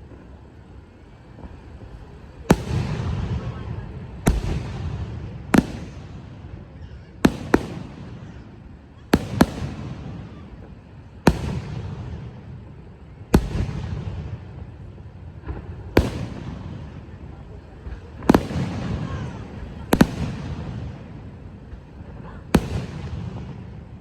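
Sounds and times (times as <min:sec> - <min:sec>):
fireworks banging and crackling: 0:00.0 - 0:24.0.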